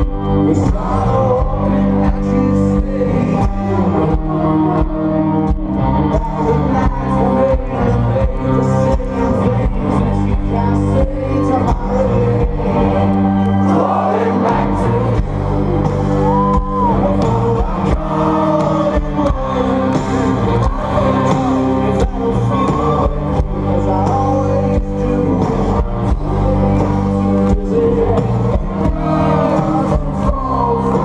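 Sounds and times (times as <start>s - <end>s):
crowd singing along: 0.0s - 31.0s
live rock band: 0.0s - 31.0s.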